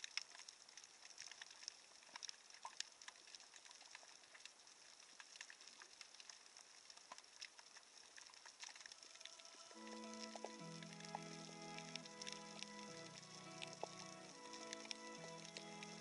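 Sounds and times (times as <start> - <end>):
dense underwater crackling: 0.0 - 16.0
quiet hiss: 0.0 - 16.0.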